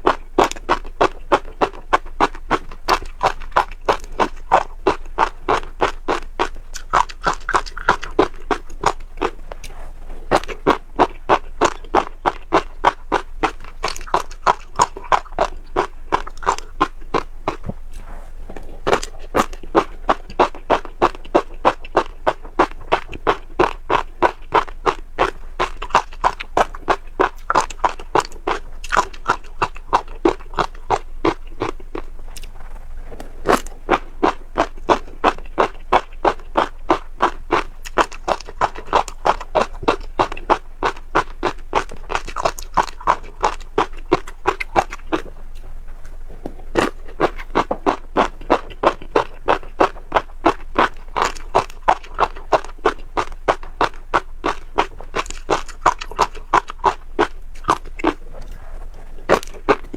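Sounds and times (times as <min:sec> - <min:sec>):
chewing crunchy seeds: 0:00.0 - 0:59.9.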